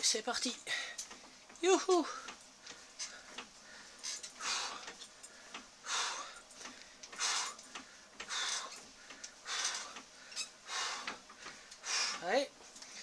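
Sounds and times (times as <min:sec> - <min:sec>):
person breathing hard: 0:02.1 - 0:13.0.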